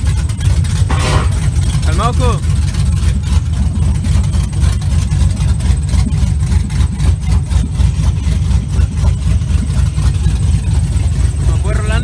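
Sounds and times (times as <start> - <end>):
engine idling with pulsing exhaust: 0.0 - 12.0.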